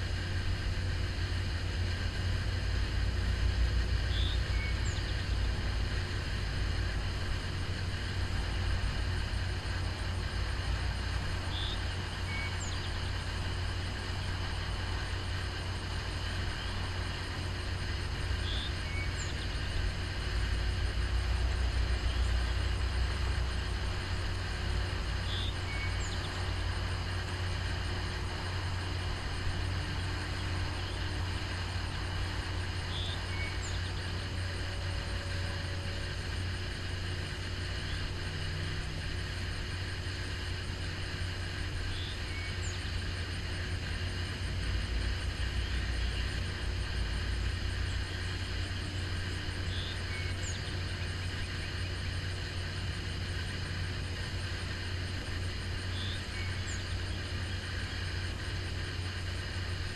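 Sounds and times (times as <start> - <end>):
distant diesel engines rumbling: 0.0 - 59.9.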